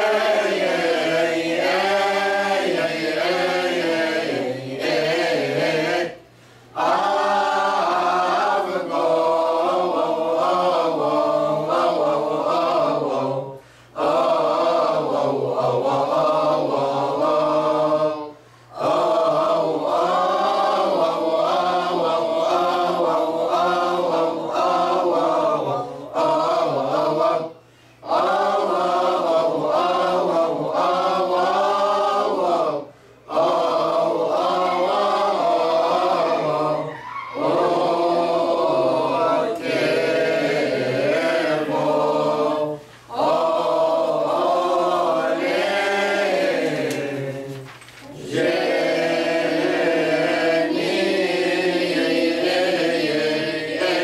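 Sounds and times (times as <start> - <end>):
choir chanting a hymn: 0.0 - 54.0.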